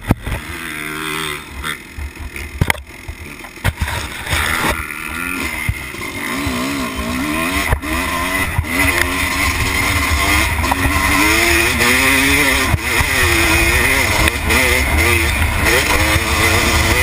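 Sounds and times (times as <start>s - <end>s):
dirt bike engine revving: 0.0s - 17.0s
sharp knocks from bumpy track: 1.6s - 6.6s, 7.5s - 17.0s.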